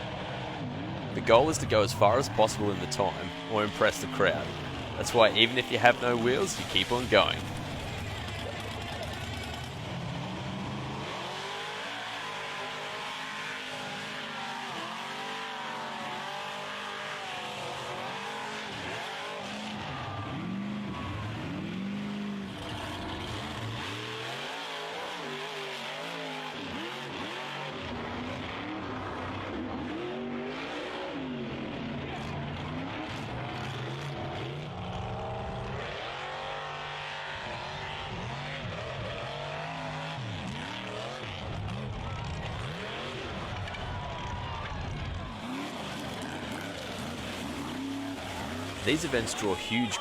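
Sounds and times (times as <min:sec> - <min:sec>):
truck engines revving: 0:00.0 - 0:50.0.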